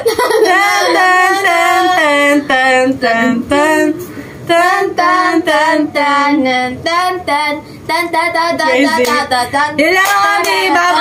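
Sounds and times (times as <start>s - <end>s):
girl singing unaccompanied: 0.4s - 11.0s.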